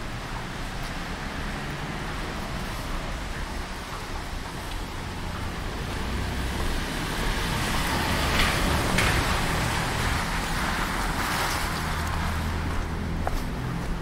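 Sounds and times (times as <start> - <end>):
car passing on wet street: 0.0 - 14.0.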